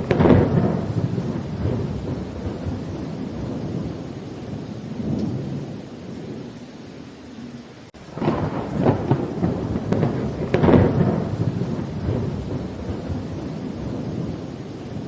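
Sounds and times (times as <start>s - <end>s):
crackling peal of thunder: 0.0s - 6.5s, 8.0s - 15.0s
steady rain: 0.0s - 15.0s
thunder rumbling: 0.0s - 15.0s.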